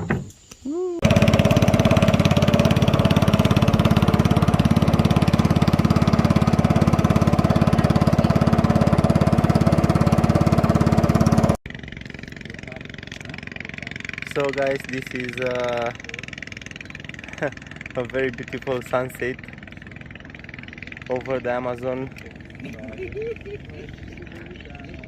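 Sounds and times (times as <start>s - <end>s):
engine running loudly: 1.0s - 25.0s.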